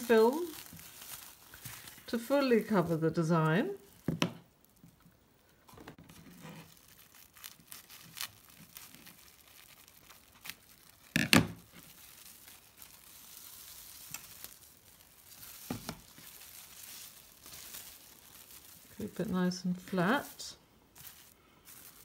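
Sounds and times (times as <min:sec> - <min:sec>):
cling film crinkling: 0:00.0 - 0:22.0.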